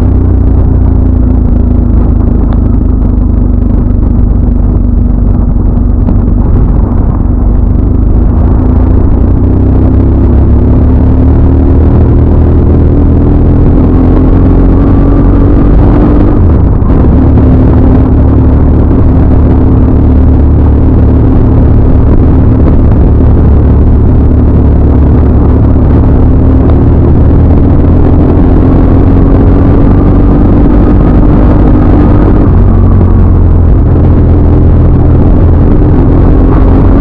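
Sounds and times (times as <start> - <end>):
motorcycle engine running: 0.0 - 37.0
wind rumble on microphone: 0.0 - 37.0.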